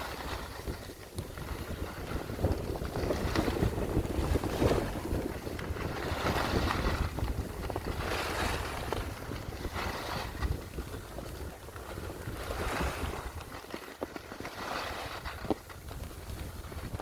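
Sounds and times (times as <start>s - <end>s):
skis swishing through snow: 0.0s - 17.0s
wind rushing over microphone: 0.0s - 17.0s.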